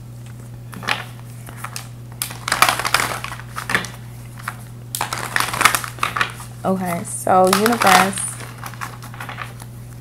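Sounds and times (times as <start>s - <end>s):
cards riffling: 0.7s - 6.5s, 7.4s - 10.0s.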